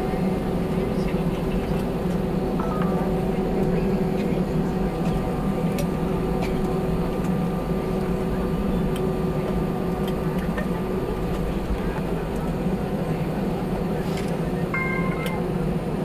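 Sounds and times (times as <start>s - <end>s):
aircraft cabin engine drone: 0.0s - 16.0s.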